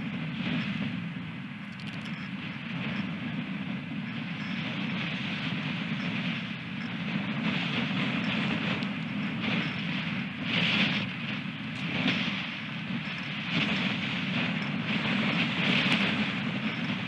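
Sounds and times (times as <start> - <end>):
storm wind gusting on microphone: 0.0 - 17.0.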